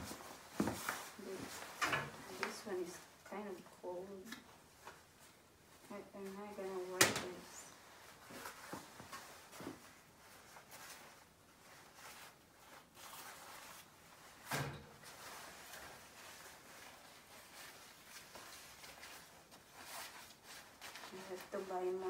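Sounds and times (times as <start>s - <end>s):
clothes rustling: 0.0s - 22.0s.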